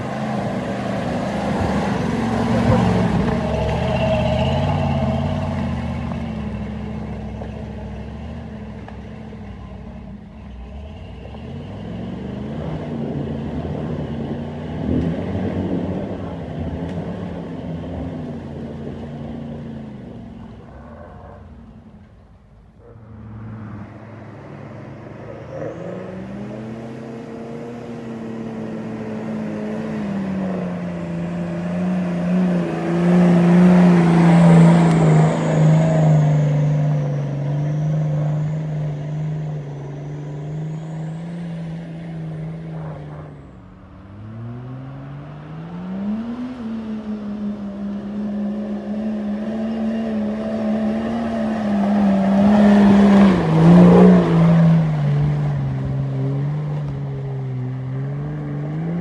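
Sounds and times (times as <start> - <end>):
off-road vehicle engine revving: 0.0 - 22.1, 22.8 - 59.0.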